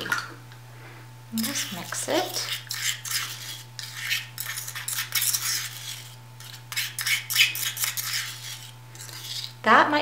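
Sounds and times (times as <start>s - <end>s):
steady low hum: 0.0s - 10.0s
plastic spoon scraping ceramic ramekin: 1.4s - 9.6s.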